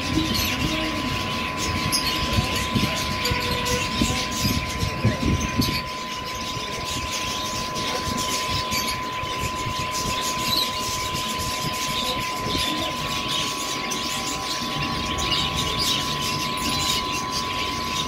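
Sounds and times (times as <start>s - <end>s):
constant high whine: 0.0s - 18.0s.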